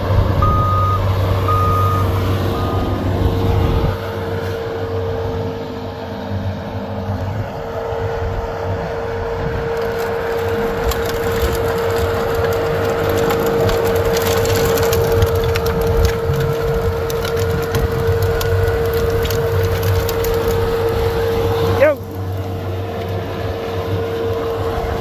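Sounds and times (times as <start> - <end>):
diesel engine rumble: 0.0 - 25.0
snowblower whine: 0.0 - 25.0.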